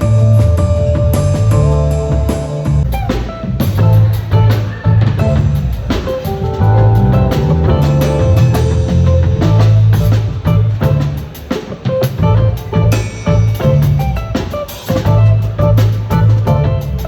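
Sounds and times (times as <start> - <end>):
bass line: 0.0 - 11.4, 12.1 - 17.0
drum kit beat: 0.0 - 17.0
guitar: 0.0 - 17.0.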